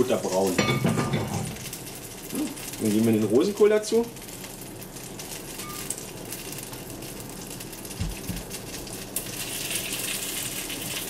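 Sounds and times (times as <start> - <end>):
leaves sizzling in butter: 0.0 - 11.0.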